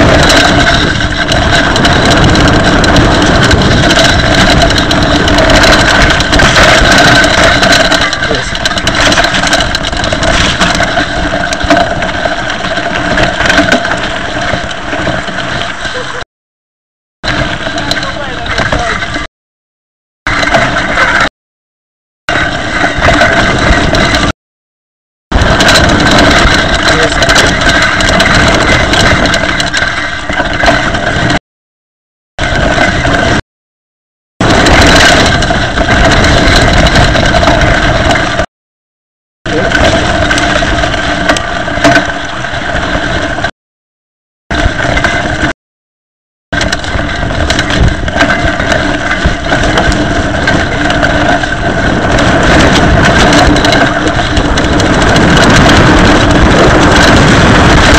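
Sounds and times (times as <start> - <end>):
bike disc brakes grinding: 0.0 - 16.2, 17.2 - 19.3, 20.3 - 21.3, 22.3 - 24.3, 25.4 - 31.4, 34.4 - 38.5, 39.5 - 43.5, 46.6 - 57.9.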